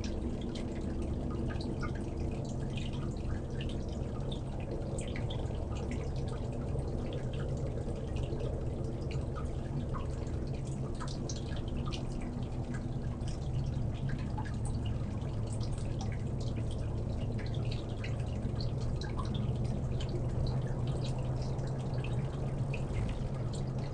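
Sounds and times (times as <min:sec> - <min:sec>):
low hum: 0:00.0 - 0:23.9
water dripping and trickling: 0:00.0 - 0:23.9.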